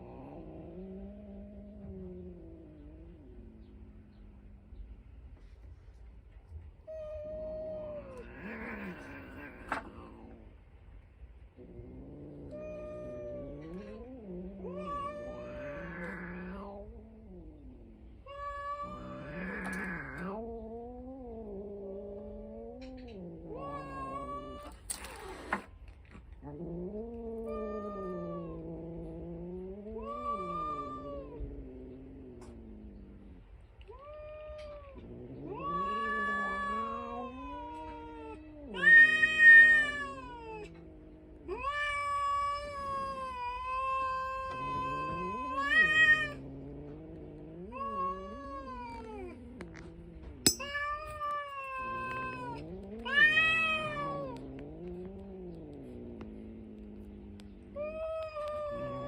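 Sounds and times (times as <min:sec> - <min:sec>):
cats caterwauling: 0:00.0 - 0:04.9, 0:06.5 - 0:10.7, 0:11.4 - 0:59.0.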